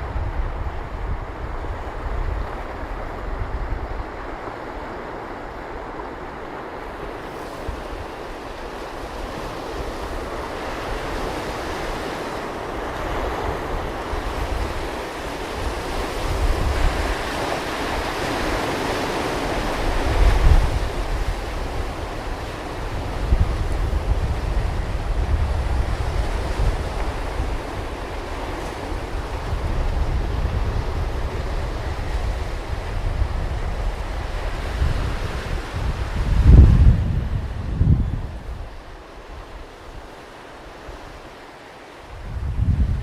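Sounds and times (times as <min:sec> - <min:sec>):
ocean surf roaring: 0:00.0 - 0:43.0
wind rumbling on microphone: 0:00.0 - 0:43.0.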